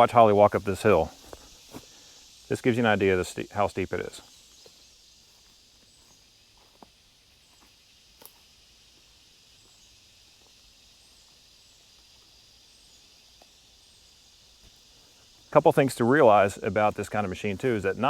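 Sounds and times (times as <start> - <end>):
high-pitched insect buzz: 0.0 - 18.0.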